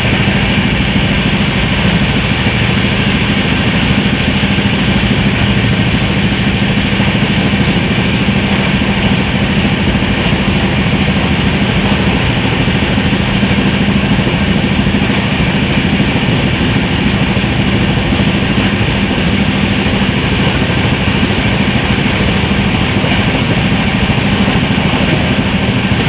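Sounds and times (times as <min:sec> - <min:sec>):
steady low hum: 0:00.0 - 0:26.0
train wheel and rail noise: 0:00.0 - 0:26.0
wind at open door: 0:00.0 - 0:26.0.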